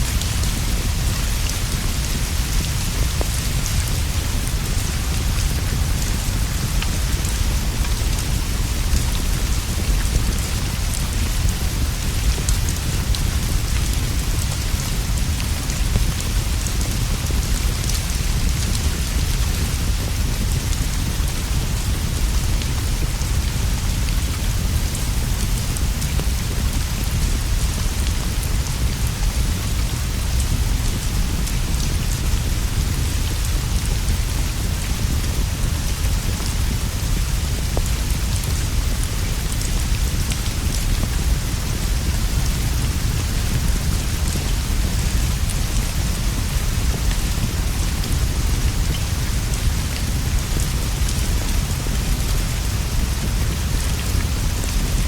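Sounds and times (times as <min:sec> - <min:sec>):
rain on leaves and roof: 0:00.0 - 0:55.0.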